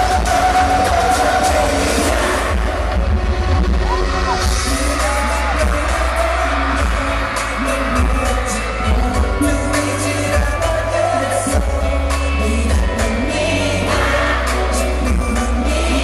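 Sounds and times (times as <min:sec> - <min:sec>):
male group singing: 0:00.0 - 0:03.2, 0:04.3 - 0:16.0
heavy bass beat: 0:00.0 - 0:16.0.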